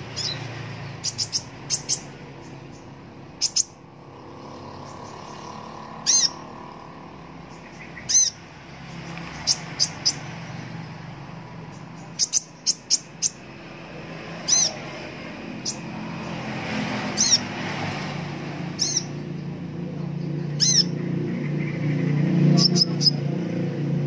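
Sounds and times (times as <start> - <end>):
bird chirping high and sharp: 0.0 - 10.8, 11.6 - 17.6, 18.7 - 19.4, 20.4 - 23.3.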